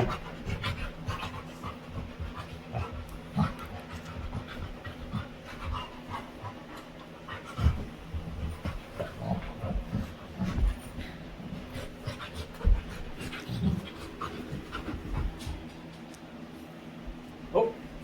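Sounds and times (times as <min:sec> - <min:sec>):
dog panting: 0:00.0 - 0:16.1.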